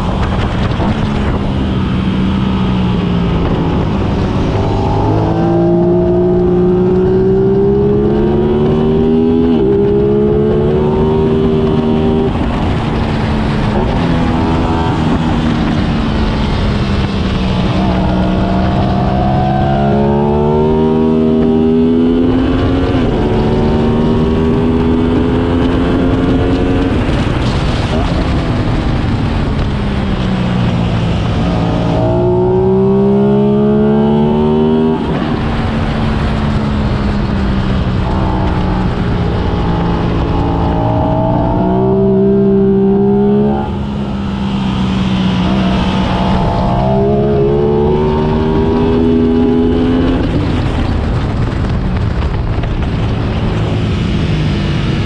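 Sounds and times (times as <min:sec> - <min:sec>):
motorcycle engine revving: 0:00.0 - 0:30.0, 0:30.6 - 0:55.0
wind rush: 0:00.0 - 0:55.0.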